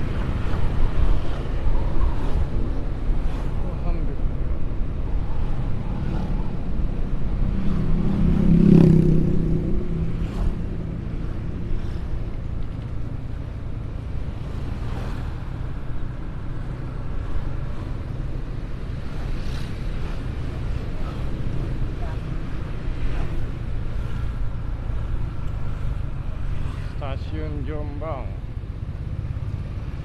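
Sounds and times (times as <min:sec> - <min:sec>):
passing vehicle engine: 0:00.0 - 0:30.0
road rumble: 0:00.0 - 0:30.0
wind: 0:00.0 - 0:30.0.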